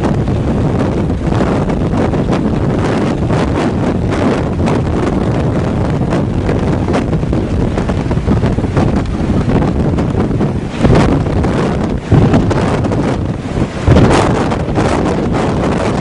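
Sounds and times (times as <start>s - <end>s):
strong wind on microphone: 0.0s - 16.0s.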